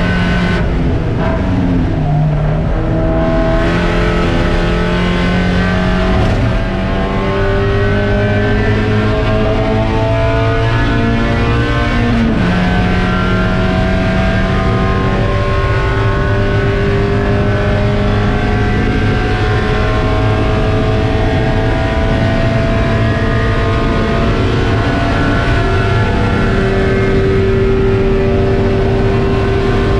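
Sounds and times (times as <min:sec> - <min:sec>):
race car engine at full throttle: 0:00.0 - 0:29.9.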